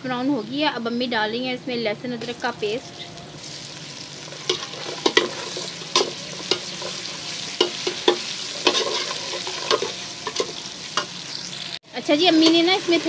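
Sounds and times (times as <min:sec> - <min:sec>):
onions sizzling in a pan: 0:02.2 - 0:13.0.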